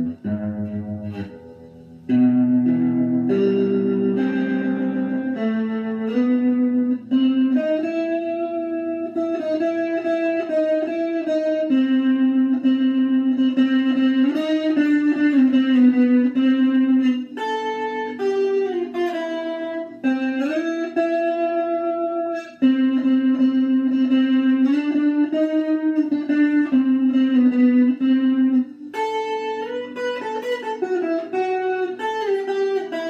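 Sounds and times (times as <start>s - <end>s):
solo electric guitar melody: 0.0s - 33.0s.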